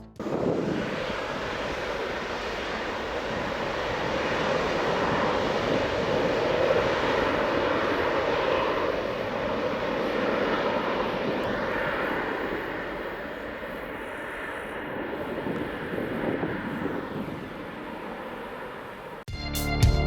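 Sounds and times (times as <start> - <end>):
plane engines passing by: 0.0 - 19.3.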